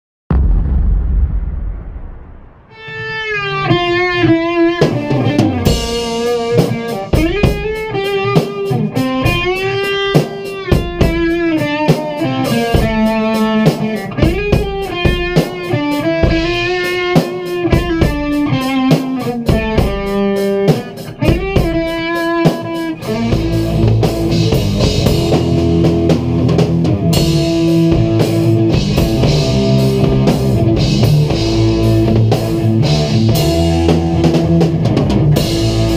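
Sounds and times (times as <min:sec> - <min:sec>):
electric guitar lead melody: 0:02.8 - 0:35.9.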